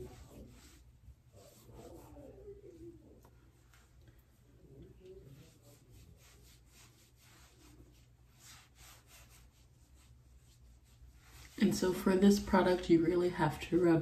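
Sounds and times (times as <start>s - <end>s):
fingers rubbing cream on skin: 0.0s - 4.0s, 5.1s - 12.9s.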